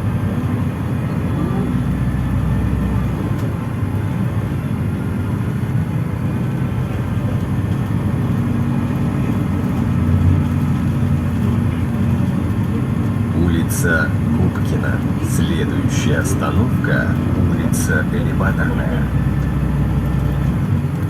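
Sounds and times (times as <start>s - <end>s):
bus engine: 0.0s - 21.0s
road rumble: 0.0s - 21.0s.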